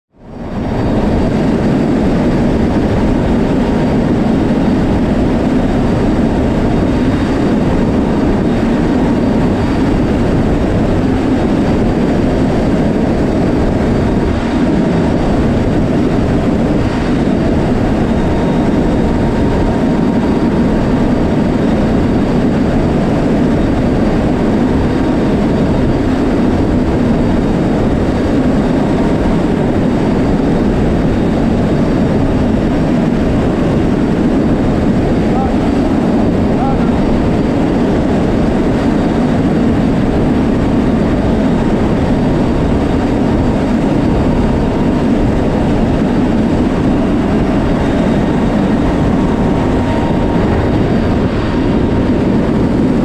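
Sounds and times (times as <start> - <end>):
turboprop engines droning: 0.1 - 53.0
faint steady whine: 0.2 - 53.0.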